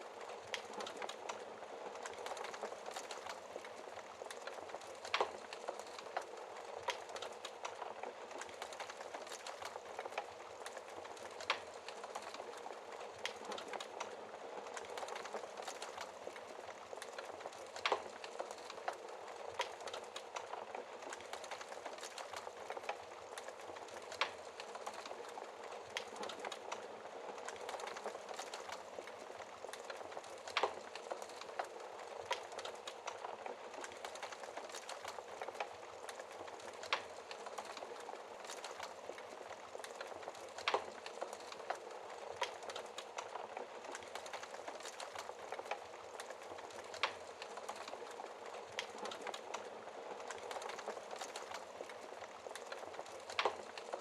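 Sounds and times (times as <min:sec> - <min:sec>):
fire hissing and crackling: 0:00.0 - 0:54.0.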